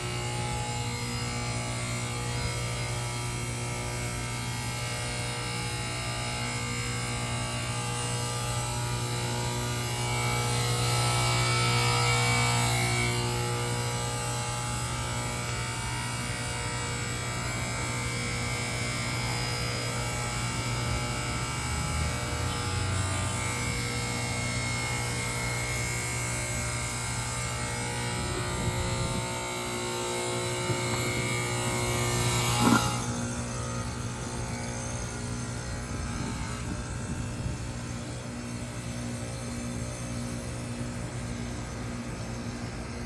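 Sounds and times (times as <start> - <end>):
heat pump compressor hum: 0.0 - 43.0.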